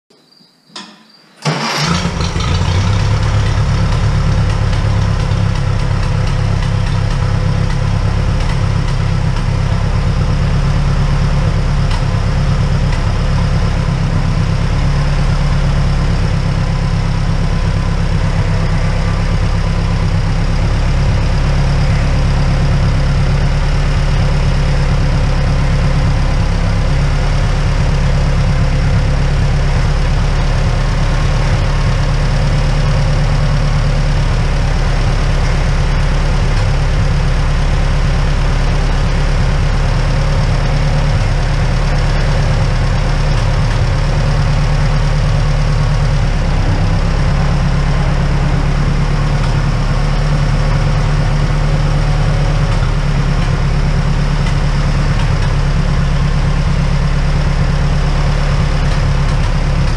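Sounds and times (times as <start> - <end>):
tractor engine starting and running: 0.1 - 59.9.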